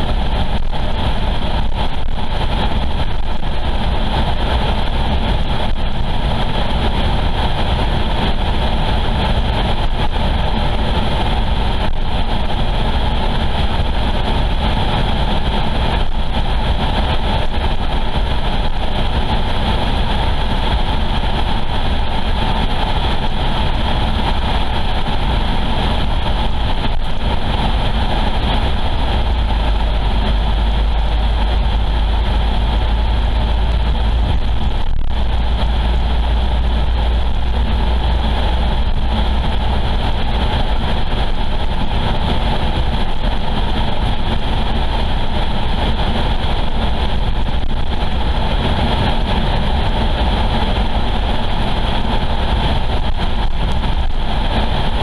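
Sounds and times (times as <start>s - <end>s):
car driving on highway: 0.0s - 55.0s.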